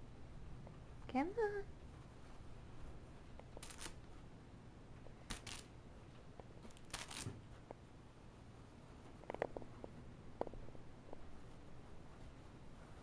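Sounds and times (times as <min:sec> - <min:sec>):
faint low room hum: 0:00.0 - 0:13.0
cat rustling and scratching: 0:01.8 - 0:13.0.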